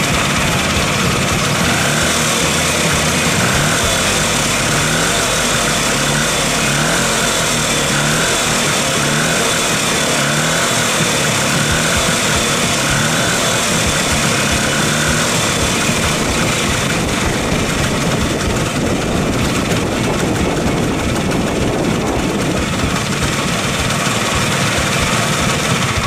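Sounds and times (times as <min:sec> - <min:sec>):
scooter engine idling: 0:00.0 - 0:26.0.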